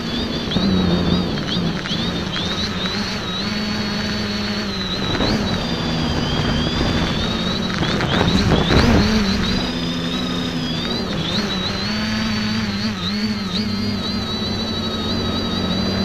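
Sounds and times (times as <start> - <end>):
quadcopter propellers whirring: 0.0 - 16.0.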